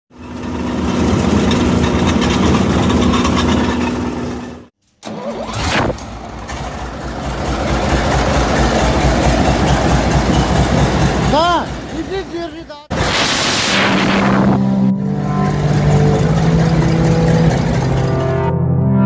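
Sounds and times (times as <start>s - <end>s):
bulldozer diesel engine running: 0.1s - 18.6s.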